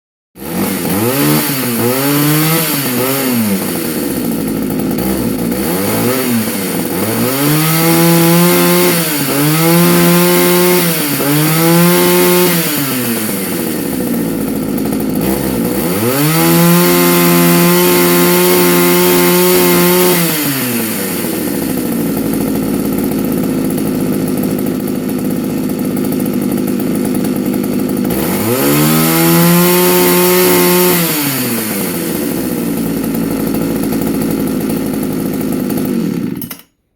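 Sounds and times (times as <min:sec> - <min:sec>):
two-stroke chainsaw engine revving: 0:00.4 - 0:36.8.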